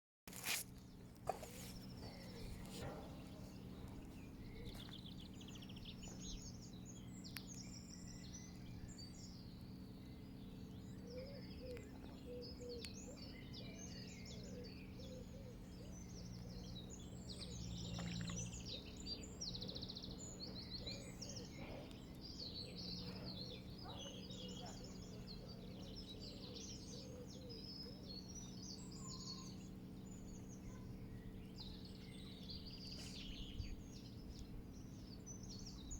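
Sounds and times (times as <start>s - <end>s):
small birds chirping: 0.3s - 35.9s
low background rumble: 0.6s - 35.9s.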